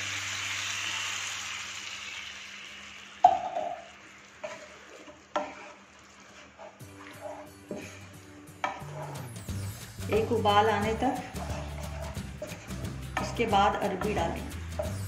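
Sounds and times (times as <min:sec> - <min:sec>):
gravy sizzling in a pan: 0:00.0 - 0:15.0.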